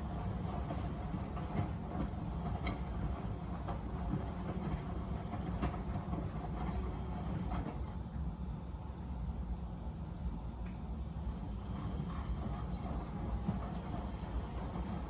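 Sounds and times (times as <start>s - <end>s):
washing machine rumbling: 0.0s - 15.0s.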